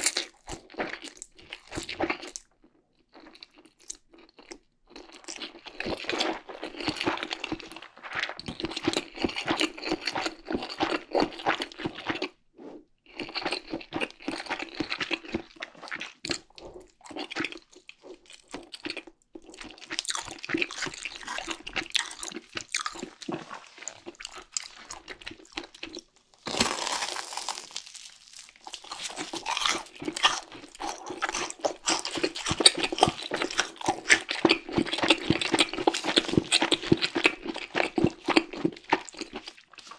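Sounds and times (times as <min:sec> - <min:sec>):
crunching fried chicken: 0:00.0 - 0:12.4, 0:13.0 - 0:39.9.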